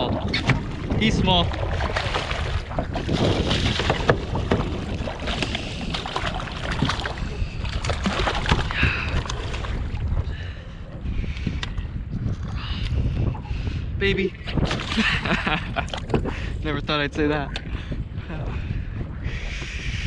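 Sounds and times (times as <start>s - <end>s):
water splashing around kayak: 0.0s - 20.0s
wind rumbling on microphone: 0.0s - 20.0s.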